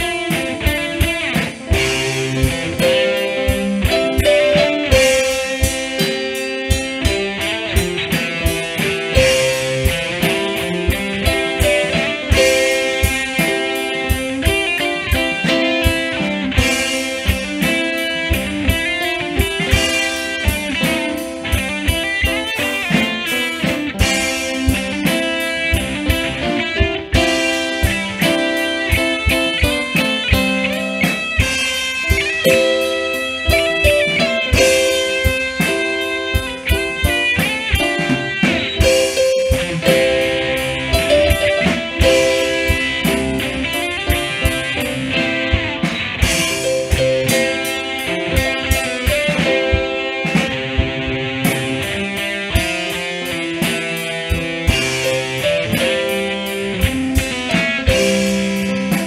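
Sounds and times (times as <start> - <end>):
instrumental music with drum beat: 0.0 - 59.0.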